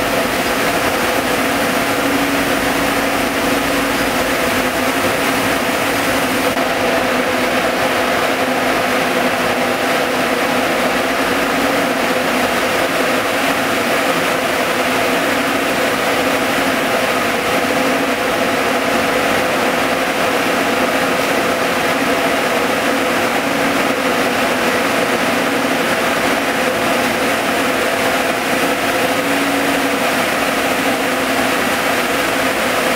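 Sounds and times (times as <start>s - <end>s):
spinning machines whirring: 0.0s - 32.9s.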